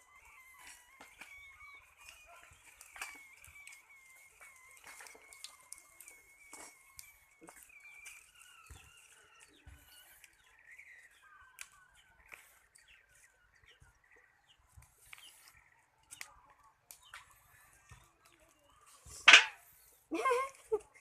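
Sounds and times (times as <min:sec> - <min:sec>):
faint bird chirping: 0:00.0 - 0:21.0.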